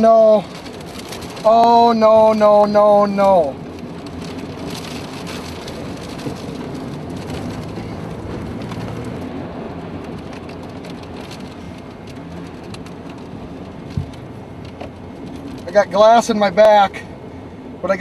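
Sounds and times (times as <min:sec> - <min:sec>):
rain: 0:00.0 - 0:18.0.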